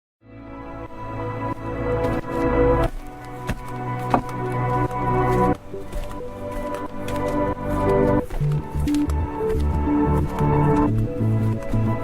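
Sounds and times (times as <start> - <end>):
background music sustained notes: 0.2 - 12.0.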